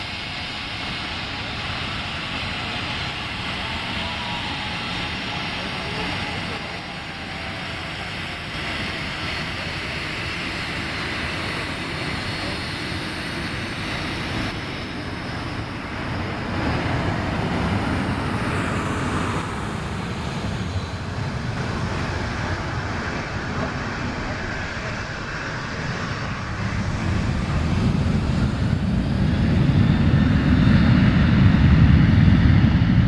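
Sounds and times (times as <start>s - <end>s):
airliner engines roaring: 0.0s - 33.0s.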